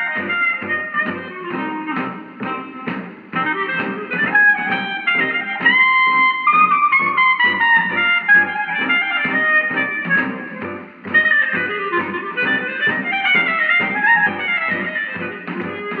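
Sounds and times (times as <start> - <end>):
tube radio playing music: 0.0 - 16.0.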